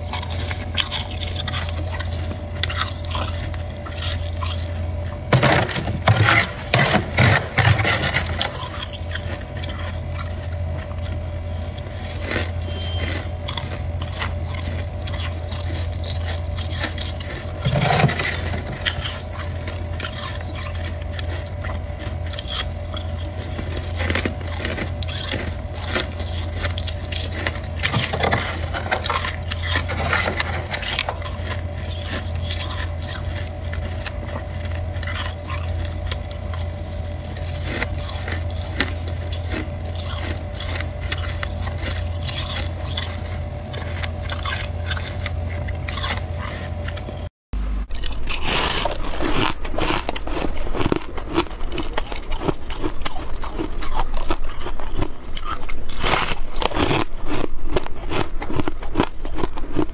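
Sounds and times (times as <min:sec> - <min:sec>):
spoon scraping frost: 0:00.0 - 0:47.0, 0:47.9 - 0:59.6
steady low hum: 0:00.0 - 0:59.9.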